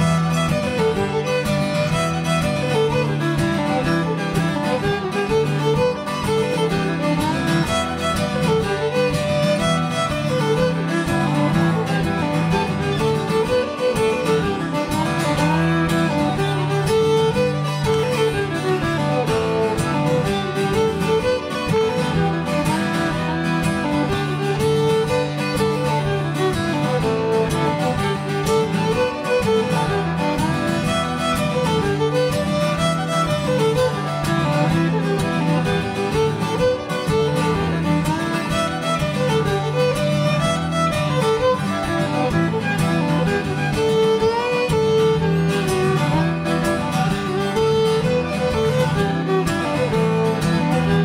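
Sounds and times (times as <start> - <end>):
fiddle melody: 0.0 - 51.0
guitar accompaniment: 0.0 - 51.0.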